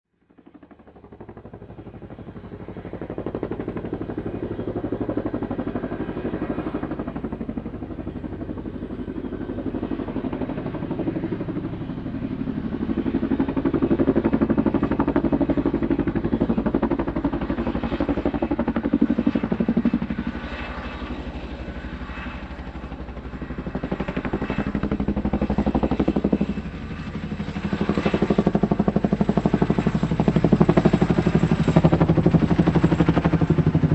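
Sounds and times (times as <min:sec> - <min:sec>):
helicopter rotor chopping: 0:00.2 - 0:33.9.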